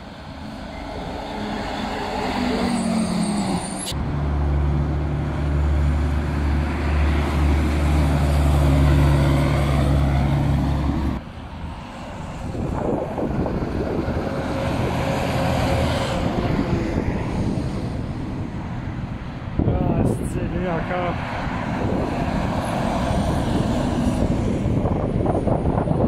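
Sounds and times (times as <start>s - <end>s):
bus passing close: 0.0s - 26.0s
diesel truck engine drone: 0.0s - 26.0s
traffic noise: 0.0s - 26.0s.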